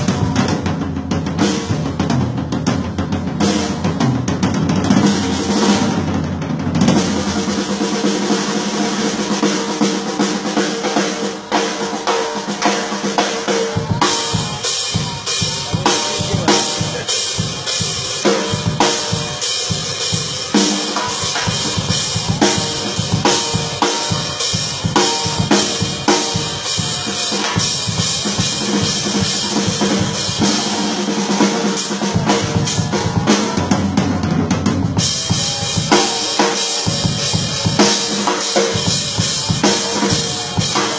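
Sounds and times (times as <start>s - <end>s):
drum kit playing fast: 0.0s - 40.9s.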